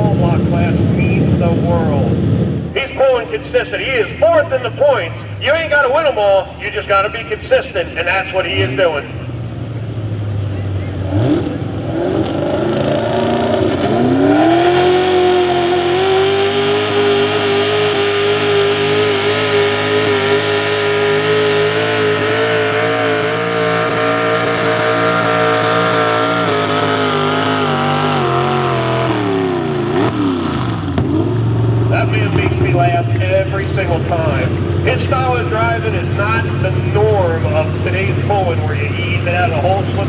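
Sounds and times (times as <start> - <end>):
truck engine revving under load: 0.0 - 40.0.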